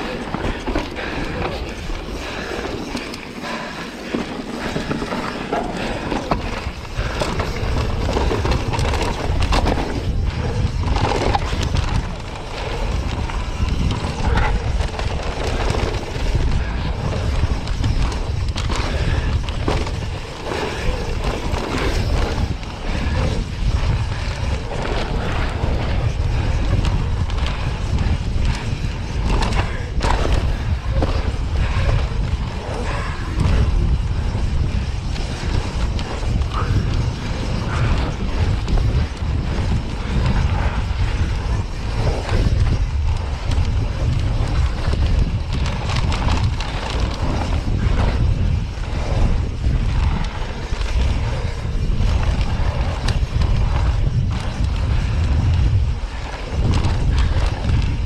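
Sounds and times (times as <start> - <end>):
bike chain and frame rattling: 0.0 - 58.0
bike tyres skidding over dirt: 0.0 - 58.0
wind rumble on microphone: 0.0 - 58.0.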